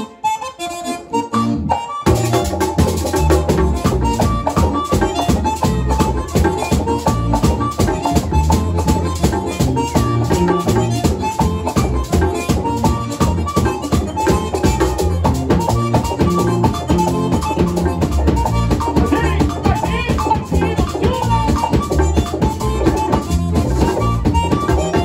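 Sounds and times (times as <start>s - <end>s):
accordion melody: 0.0s - 25.0s
drum strokes: 2.1s - 25.0s.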